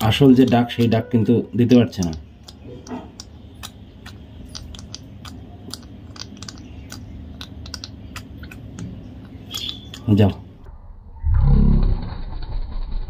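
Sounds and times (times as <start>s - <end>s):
budgie clicking: 0.0s - 10.6s.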